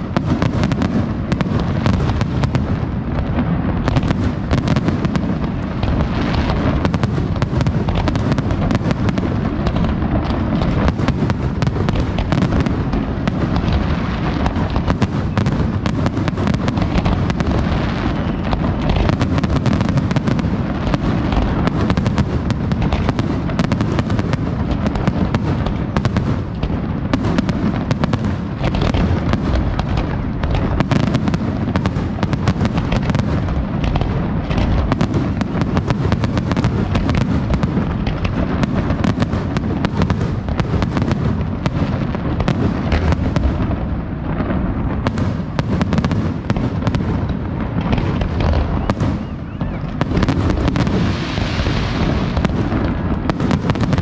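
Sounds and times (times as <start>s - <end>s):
fireworks cracks and booms: 0.0s - 54.0s.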